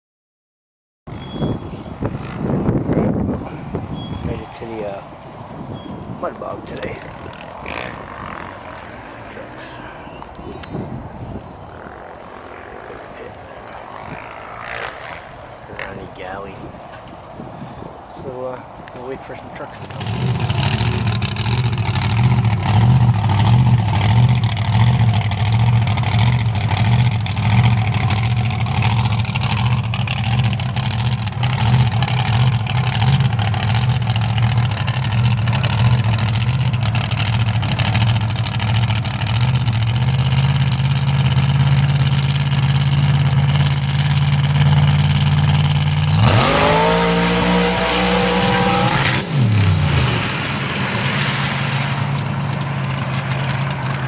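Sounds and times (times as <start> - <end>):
truck engine idling and revving: 1.1 - 17.4, 18.2 - 54.0.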